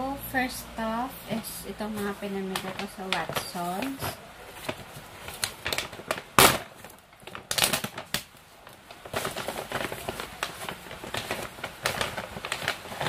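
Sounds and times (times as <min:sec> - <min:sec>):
paper bag rustling and crinkling: 0:00.9 - 0:13.0.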